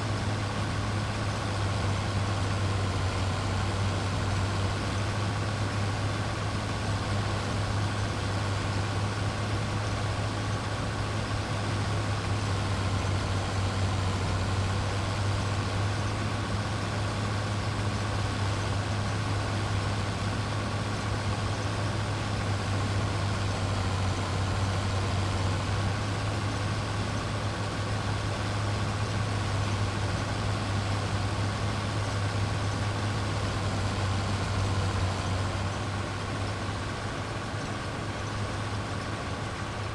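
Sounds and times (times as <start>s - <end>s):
farm machinery engine droning: 0.0s - 39.9s.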